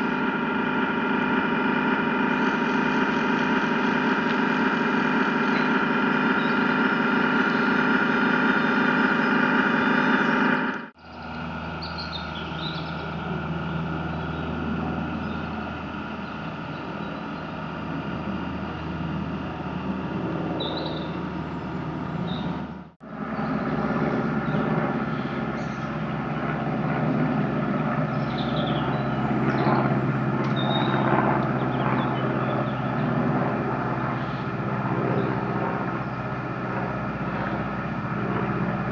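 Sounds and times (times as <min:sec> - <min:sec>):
model boat motor hum: 0:00.0 - 0:38.9.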